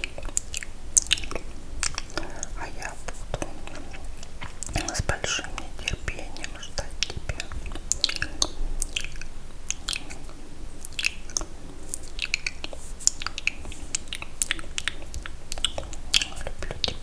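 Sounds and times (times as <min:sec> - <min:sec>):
wet mouth clicks and smacks: 0:00.0 - 0:17.0.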